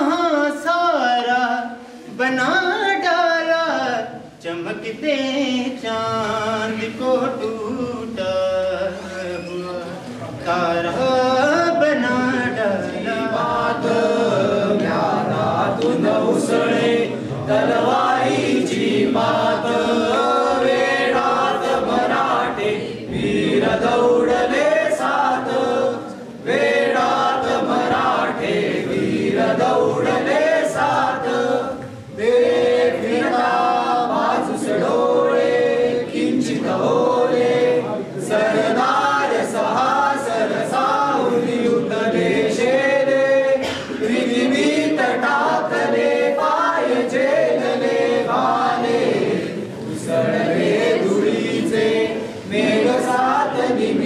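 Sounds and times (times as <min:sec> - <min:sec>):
group singing unaccompanied: 0:00.0 - 0:54.0.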